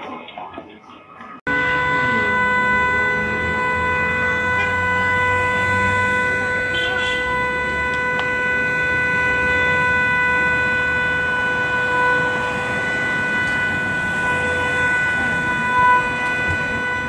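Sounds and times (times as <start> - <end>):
car horn steady tone: 1.4 - 17.0.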